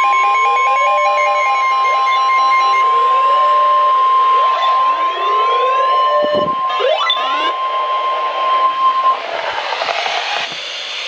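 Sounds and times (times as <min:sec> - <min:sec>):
rising sweeping whistles: 0:00.0 - 0:11.0.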